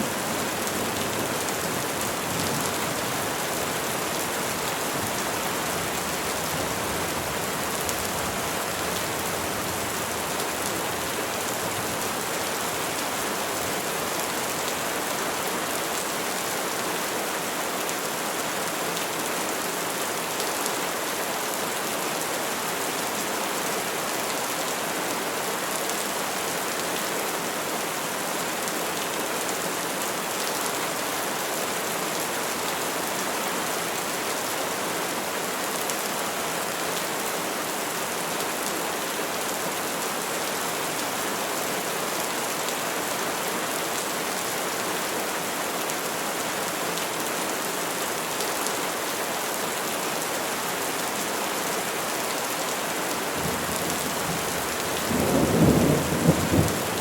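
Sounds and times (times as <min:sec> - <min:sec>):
rain falling on trees: 0:00.0 - 0:57.0.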